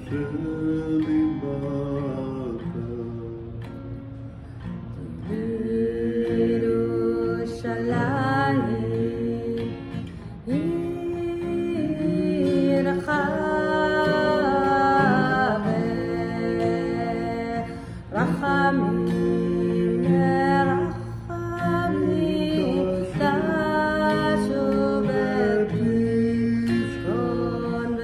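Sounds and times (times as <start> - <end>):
woman and man singing: 0.0 - 3.9, 4.9 - 28.0
acoustic guitar: 0.0 - 28.0.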